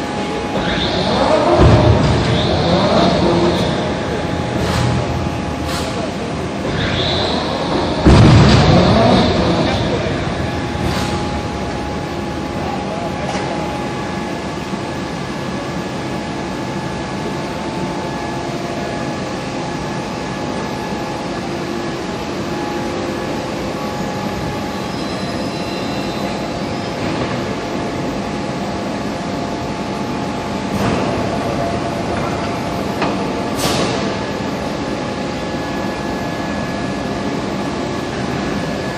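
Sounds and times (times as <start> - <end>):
heavy machinery running: 0.0 - 38.9
whining machine tones: 0.0 - 38.9.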